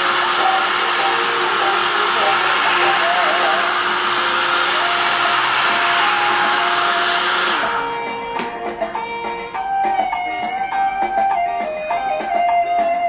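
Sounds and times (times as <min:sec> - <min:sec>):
hair dryer blowing: 0:00.0 - 0:11.2
guitar music: 0:00.0 - 0:13.0.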